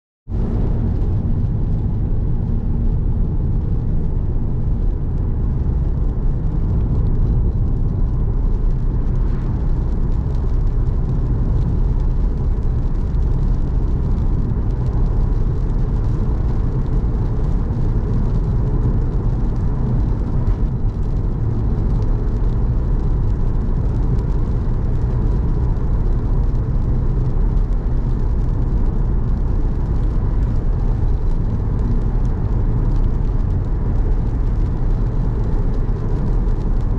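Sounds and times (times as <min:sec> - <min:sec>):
car engine and road rumble: 0:00.3 - 0:36.9.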